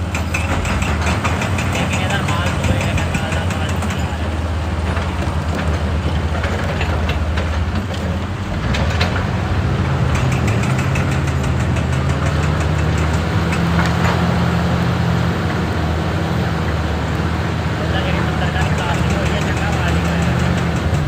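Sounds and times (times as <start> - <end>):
excavator diesel engine running: 0.0 - 21.0
knocks and clanks: 0.0 - 21.0.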